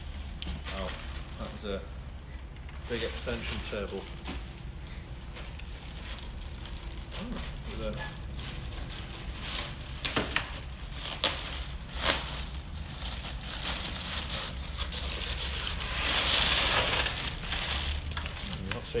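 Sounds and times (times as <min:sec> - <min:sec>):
plastic bag rustling: 0:00.0 - 0:19.0.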